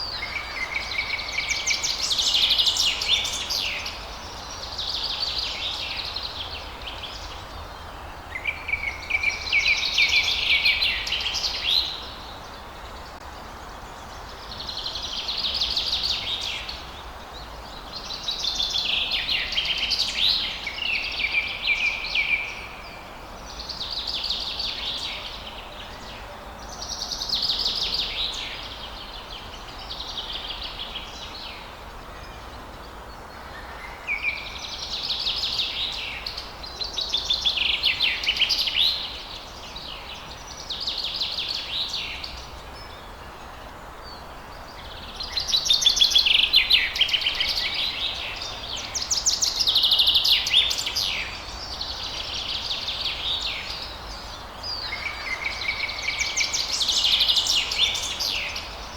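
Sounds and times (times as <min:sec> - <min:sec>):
songbird singing: 0:00.0 - 0:58.9.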